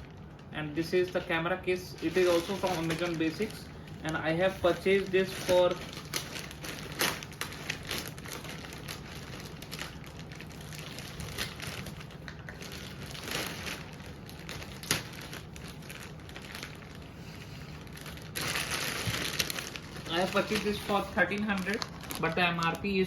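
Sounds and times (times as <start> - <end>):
plastic packaging crinkling: 0.0 - 23.0
steady low hum: 0.0 - 23.0.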